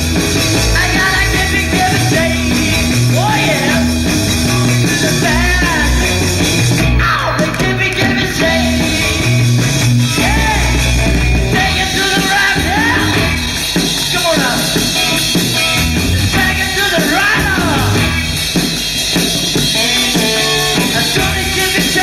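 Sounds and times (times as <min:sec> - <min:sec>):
rock and roll band playing: 0:00.0 - 0:22.0
person singing: 0:00.8 - 0:09.4, 0:10.0 - 0:14.9, 0:16.3 - 0:18.2, 0:19.8 - 0:22.0.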